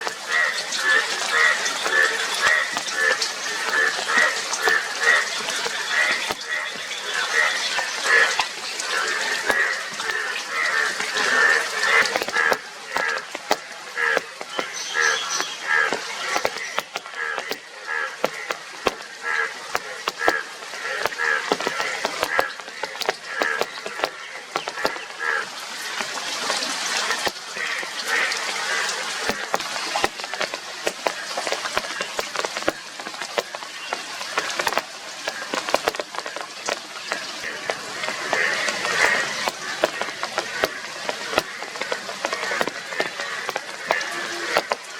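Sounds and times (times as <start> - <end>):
frogs croaking: 0.0 - 44.9
rain falling: 0.0 - 44.9.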